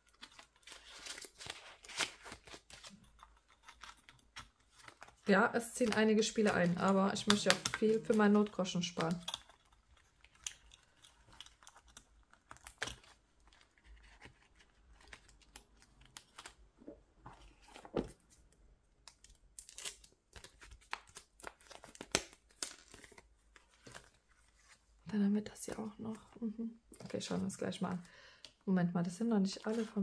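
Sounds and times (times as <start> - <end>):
plastic sleeves crinkling: 0.0 - 27.9.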